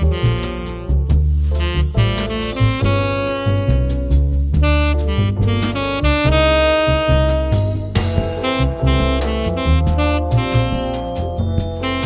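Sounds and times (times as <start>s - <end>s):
jazz music with saxophone: 0.0s - 12.0s.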